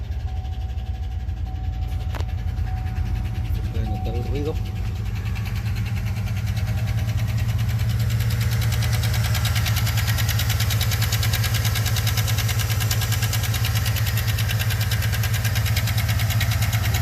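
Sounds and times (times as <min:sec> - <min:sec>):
car engine idling: 0:00.0 - 0:17.0
fast even engine ticking: 0:00.0 - 0:17.0.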